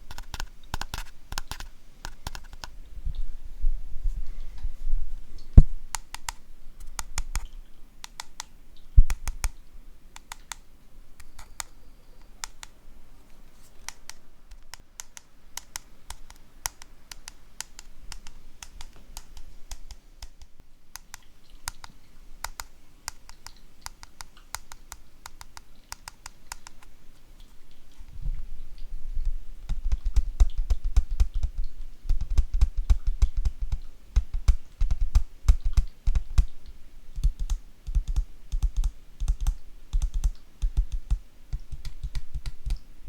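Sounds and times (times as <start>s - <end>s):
sharp clicks and taps: 0.0s - 3.2s, 5.4s - 9.6s, 10.2s - 12.8s, 13.8s - 27.0s, 27.7s - 42.9s.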